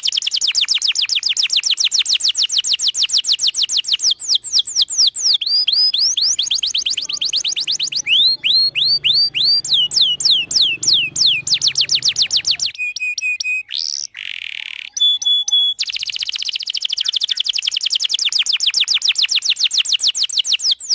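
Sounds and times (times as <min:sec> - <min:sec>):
canary singing trills: 0:00.0 - 0:20.9.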